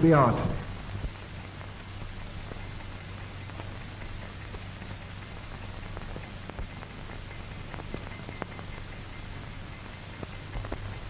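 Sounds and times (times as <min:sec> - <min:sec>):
film soundtrack hiss and crackle: 0:00.0 - 0:11.0
low hum: 0:00.0 - 0:11.0.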